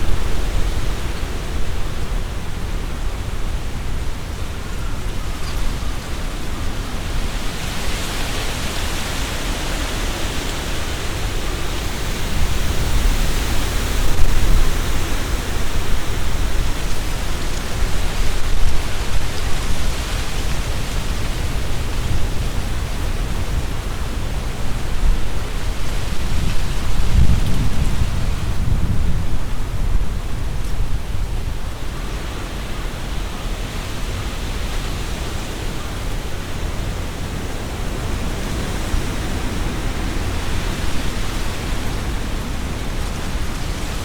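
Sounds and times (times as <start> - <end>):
wind buffeting microphone: 0.0 - 44.0
wind rustling tree leaves: 0.0 - 44.0.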